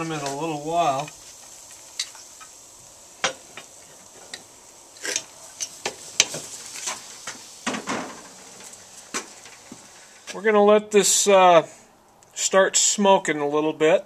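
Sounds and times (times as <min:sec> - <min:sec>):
faint sizzle of smoldering wood chips: 0:00.0 - 0:14.0.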